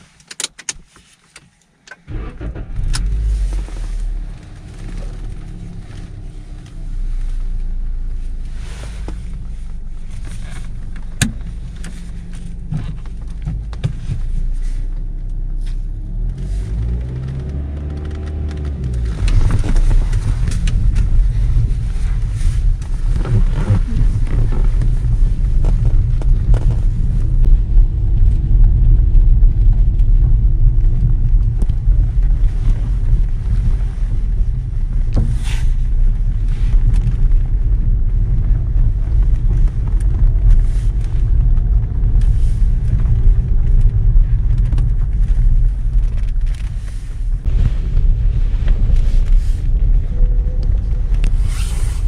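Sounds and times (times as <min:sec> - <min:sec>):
car engine and tyre noise: 0:00.0 - 0:52.0.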